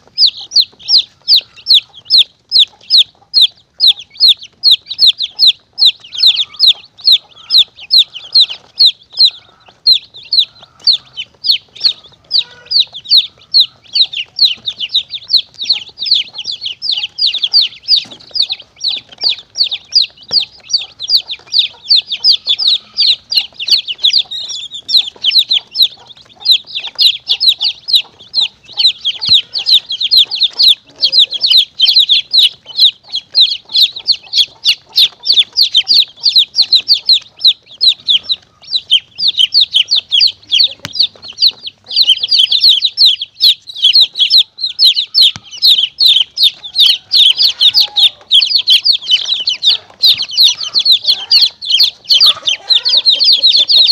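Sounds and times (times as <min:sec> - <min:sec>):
baby chicks peeping: 0:00.0 - 0:53.9.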